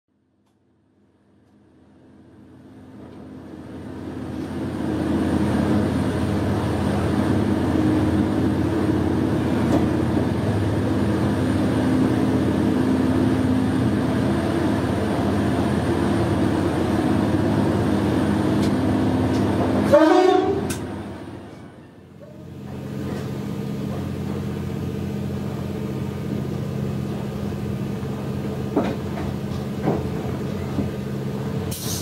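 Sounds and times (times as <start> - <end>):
train rumbling in tunnel: 0.2 - 32.0.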